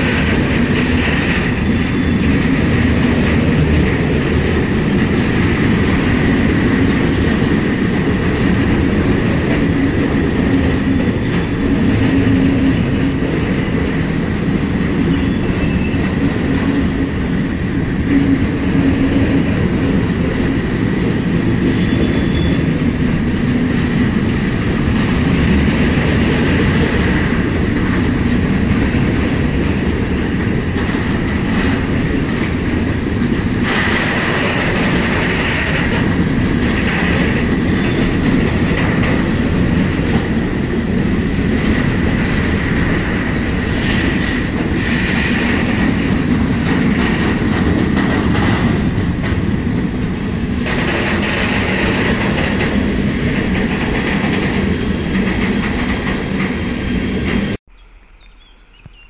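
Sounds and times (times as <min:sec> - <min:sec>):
wheels clacking over rail joints: 0:00.0 - 0:57.6.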